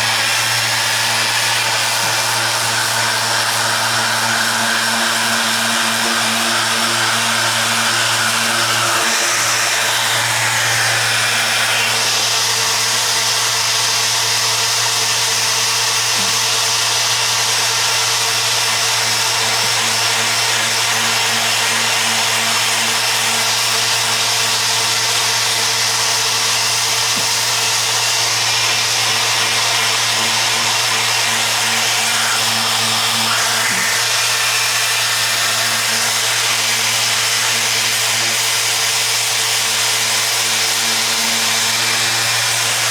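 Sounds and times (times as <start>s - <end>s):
electric sander on metal: 0.0s - 42.9s.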